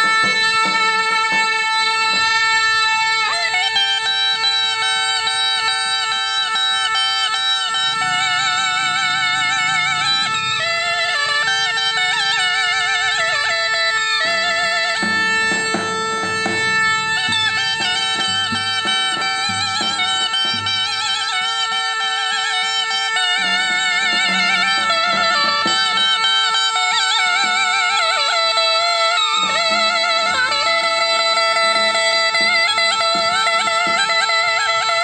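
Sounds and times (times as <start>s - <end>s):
held drone note: 0.0s - 35.0s
zurna playing folk melody: 0.0s - 35.0s.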